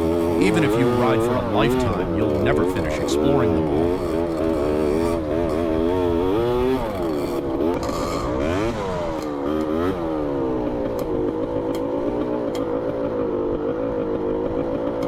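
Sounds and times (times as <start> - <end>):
dirt bike engine revving: 0.0 - 12.3.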